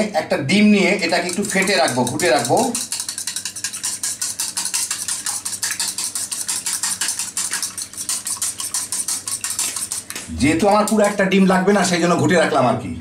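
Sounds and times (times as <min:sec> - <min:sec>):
wire whisk beating in a bowl: 0:00.8 - 0:12.0.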